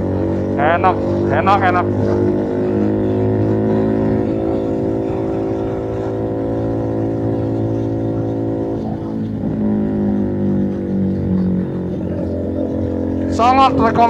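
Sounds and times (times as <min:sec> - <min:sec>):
motorcycle exhaust note: 0:00.0 - 0:14.0.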